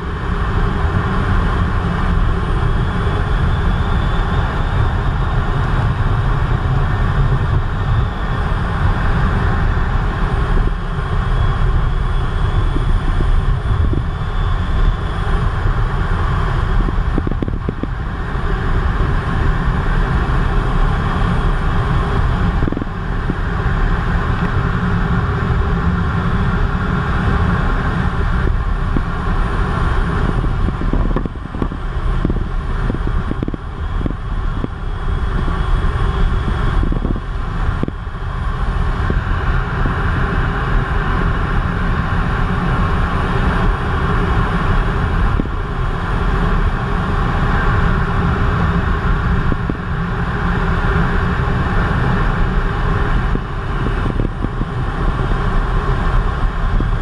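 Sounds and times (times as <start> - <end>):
jet cockpit engine and airflow noise: 0.0 - 57.0.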